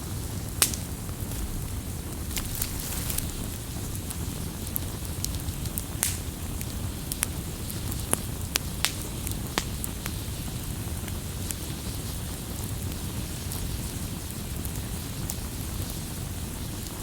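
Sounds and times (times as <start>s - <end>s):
fire crackles and snaps: 0.0s - 17.0s
low rush of campfire: 0.0s - 17.0s.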